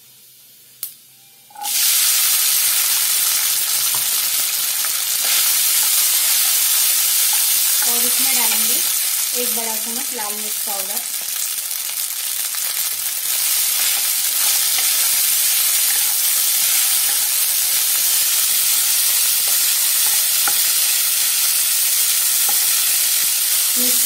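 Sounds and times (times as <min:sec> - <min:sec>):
tapioca pearls sizzling in oil: 0:00.1 - 0:24.0.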